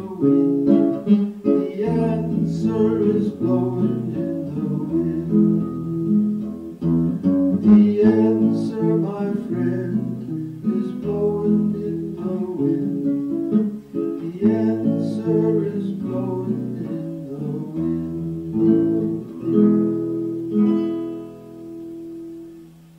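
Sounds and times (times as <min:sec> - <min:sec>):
folk song on acoustic guitar: 0:00.0 - 0:22.9.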